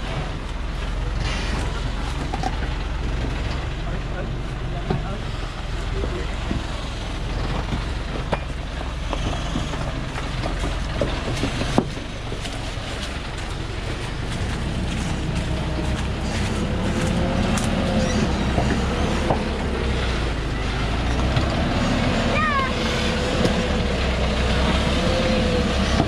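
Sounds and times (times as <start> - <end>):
truck diesel engine: 0.0 - 26.0.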